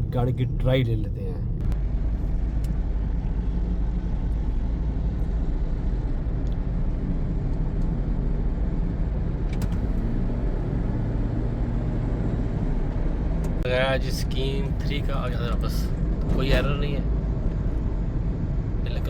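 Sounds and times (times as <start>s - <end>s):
car road noise rumble: 0.0s - 19.0s.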